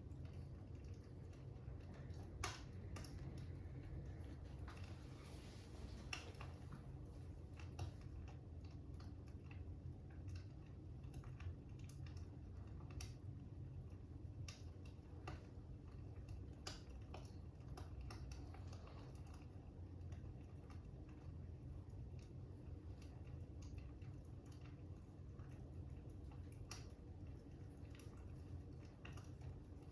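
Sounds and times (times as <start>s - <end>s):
faint fire crackling: 0.0s - 29.9s
low steady rumble: 0.0s - 29.9s.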